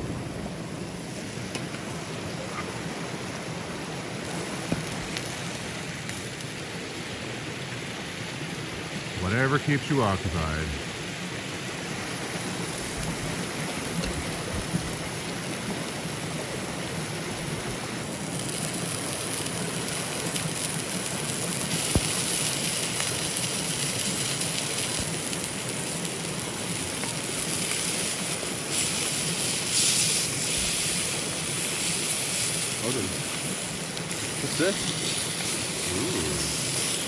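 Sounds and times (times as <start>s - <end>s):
river flowing: 0.0s - 37.0s.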